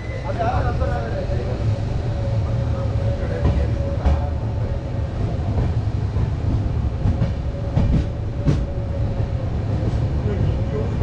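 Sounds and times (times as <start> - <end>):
train coach rumble: 0.0 - 11.0.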